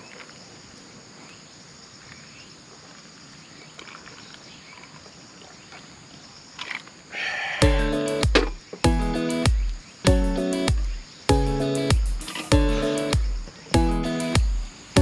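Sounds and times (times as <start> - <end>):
crickets and insects chirping: 0.0 - 15.0
faint outdoor background noise: 0.0 - 15.0.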